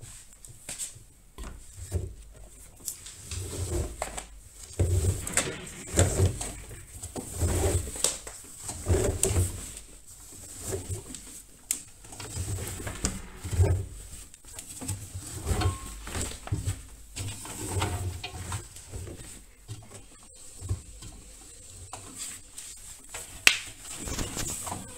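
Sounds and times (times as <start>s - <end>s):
fabric rustling: 1.6s - 24.9s.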